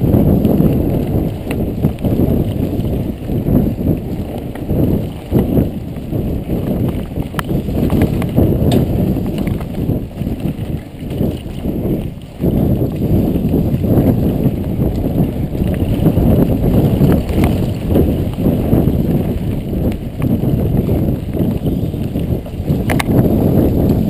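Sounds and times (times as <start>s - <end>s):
bike rattling on rough ground: 0.0s - 24.0s
wind rumbling on microphone: 0.0s - 24.0s.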